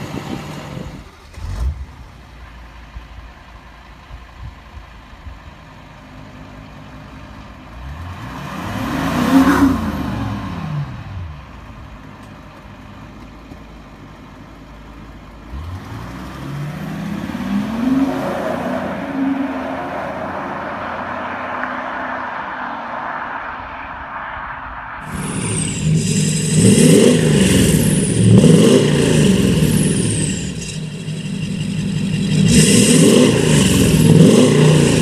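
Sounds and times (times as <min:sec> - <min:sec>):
diesel car engine idling and revving: 0:00.0 - 0:35.0.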